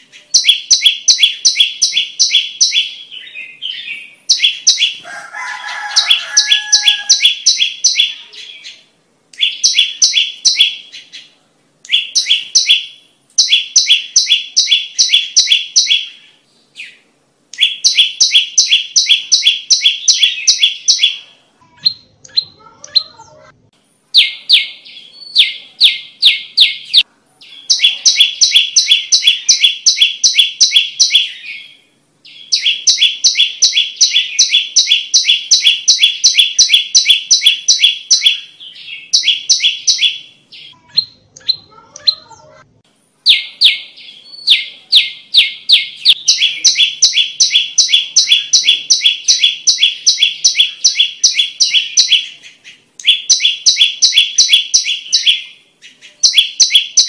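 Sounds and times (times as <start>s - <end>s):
bird chirping rapidly: 0.0s - 23.3s, 24.1s - 42.5s, 43.2s - 57.0s.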